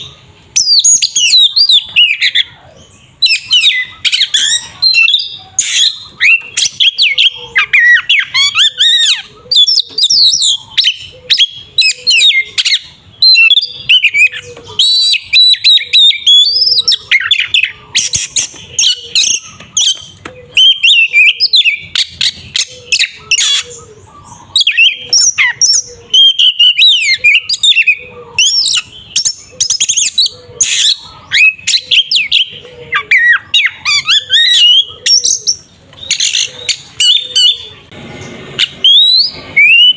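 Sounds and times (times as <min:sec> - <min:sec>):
bird singing varied whistles and trills: 0:00.0 - 0:37.9, 0:38.6 - 0:39.9.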